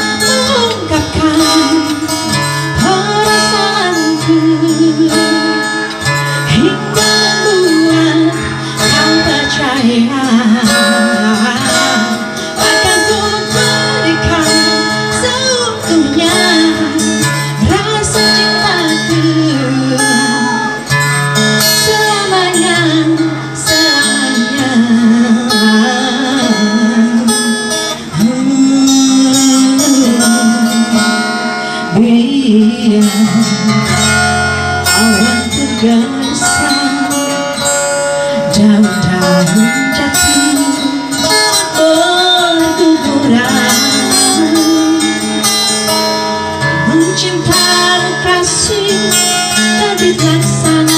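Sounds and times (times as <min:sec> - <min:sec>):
acoustic guitar strumming: 0:00.0 - 0:50.9
woman singing: 0:00.0 - 0:50.9.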